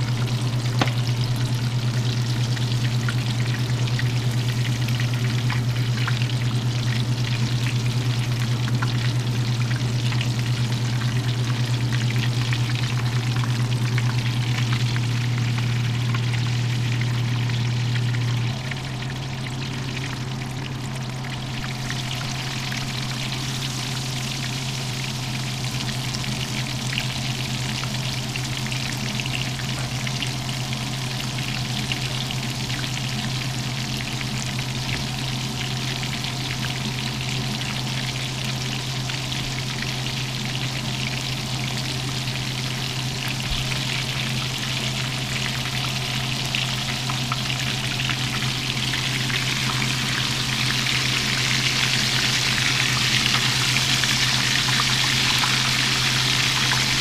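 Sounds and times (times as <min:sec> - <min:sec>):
fish frying in hot oil: 0:00.0 - 0:57.0
low hum: 0:00.0 - 0:57.0.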